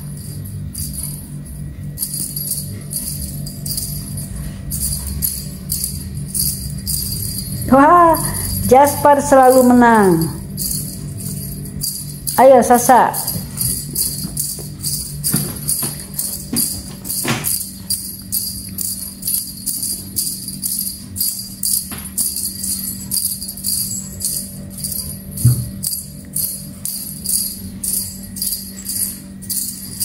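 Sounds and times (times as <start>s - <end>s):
music with jingling beat: 0.0s - 30.0s.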